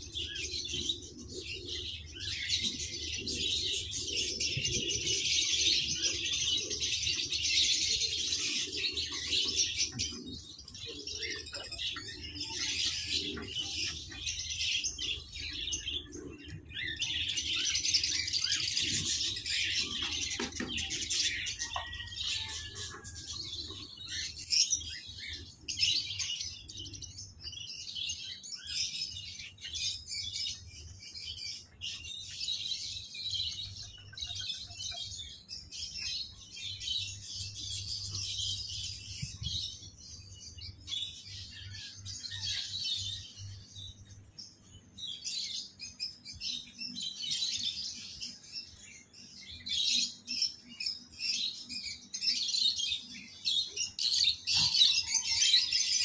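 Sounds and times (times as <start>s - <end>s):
caged birds chirping: 0.0s - 56.0s.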